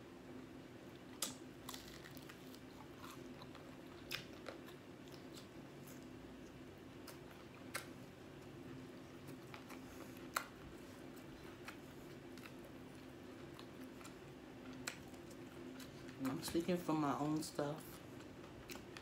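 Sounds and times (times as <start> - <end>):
chewing fried chicken: 0.9 - 19.0.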